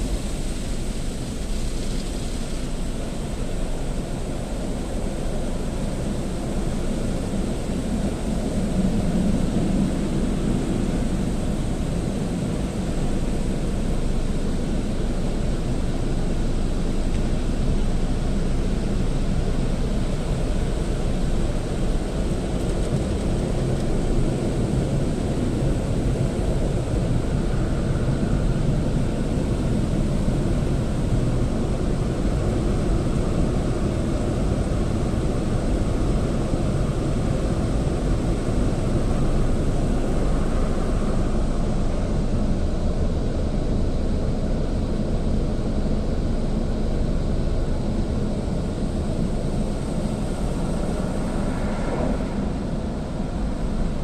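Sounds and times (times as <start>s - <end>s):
car wash machine rumbling: 0.0s - 54.0s.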